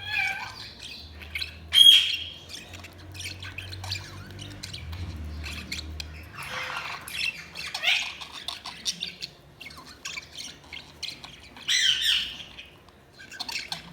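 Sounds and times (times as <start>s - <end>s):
budgerigars chirping and squawking: 0.0s - 13.9s.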